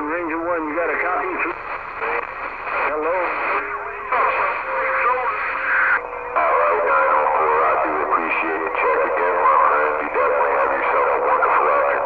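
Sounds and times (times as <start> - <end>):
static hiss: 0.0 - 12.0
tinny radio transmission: 0.0 - 12.0.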